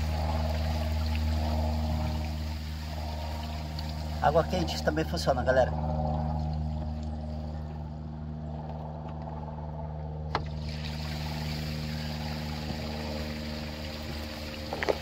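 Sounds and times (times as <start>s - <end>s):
motor hum: 0.0s - 15.0s.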